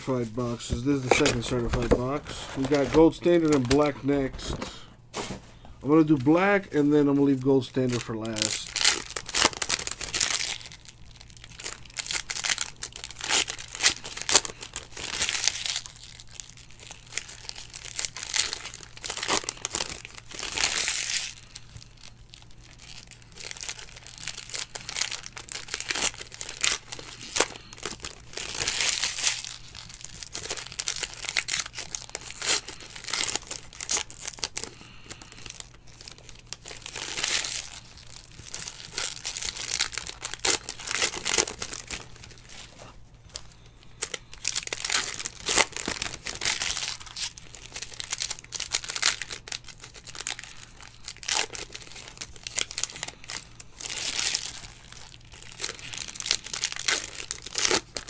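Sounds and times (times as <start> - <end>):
foil wrappers crinkling and tearing: 0.0 - 58.0.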